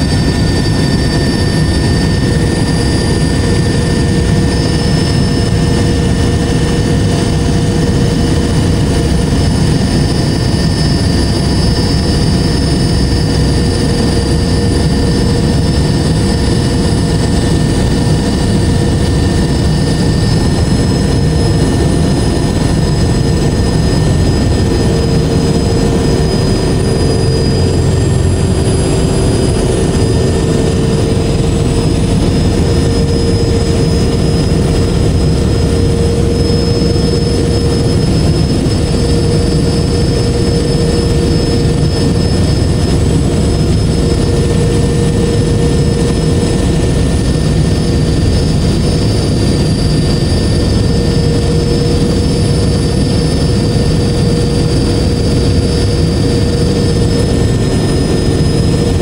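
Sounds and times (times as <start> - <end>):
helicopter rotor and engine rumble: 0.0 - 59.0
steady whining tones: 0.0 - 59.0.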